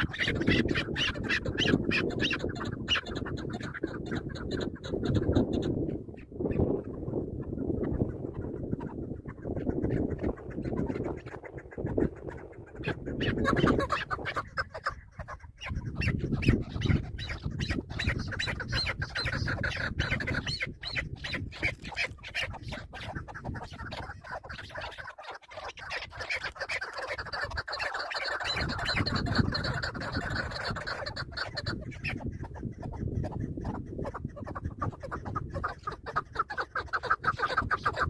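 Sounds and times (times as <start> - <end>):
partridges clucking chatter: 0.0 - 5.8, 6.4 - 38.0.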